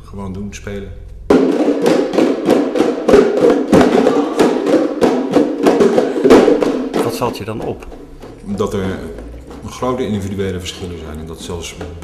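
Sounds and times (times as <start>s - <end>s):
bongos played by hand: 1.2s - 12.0s.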